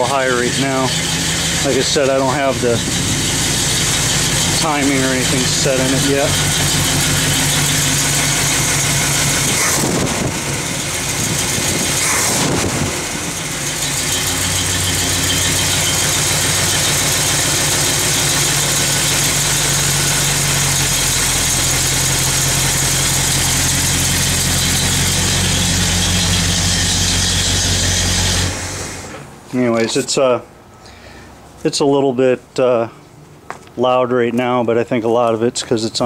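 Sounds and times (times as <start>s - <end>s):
truck engine revving and idling: 0.0s - 30.1s.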